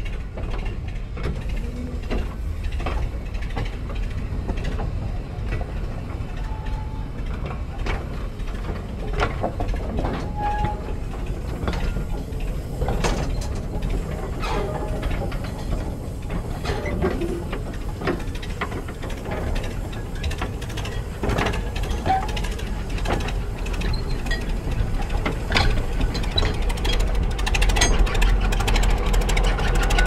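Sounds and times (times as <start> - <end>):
knocks and clanks of couplings: 0.0 - 30.0
wagon wheels rumbling on track: 0.0 - 30.0.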